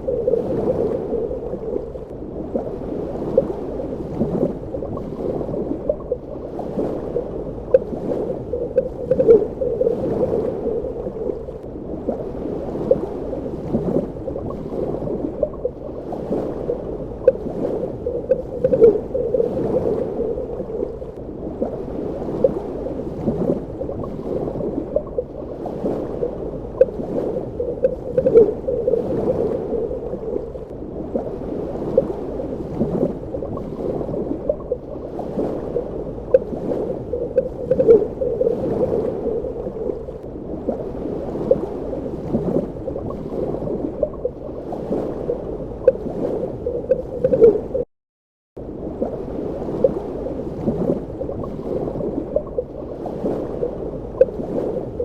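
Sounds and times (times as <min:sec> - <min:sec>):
bubbling and gurgling: 0:00.0 - 0:47.9, 0:48.6 - 0:55.0
muffled underwater wash: 0:00.0 - 0:47.9, 0:48.6 - 0:55.0.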